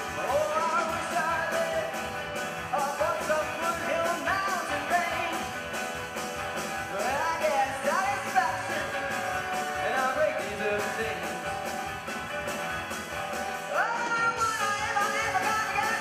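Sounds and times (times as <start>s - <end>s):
live rock band playing: 0.0s - 16.0s
steady drum beat: 0.0s - 16.0s.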